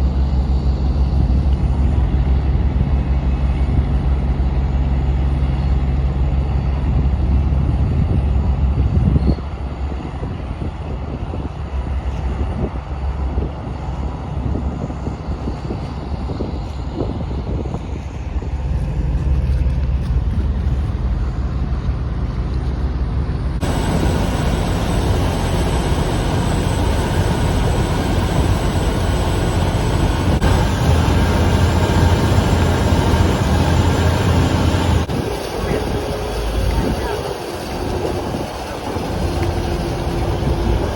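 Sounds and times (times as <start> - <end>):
low engine rumble: 0.0 - 40.9.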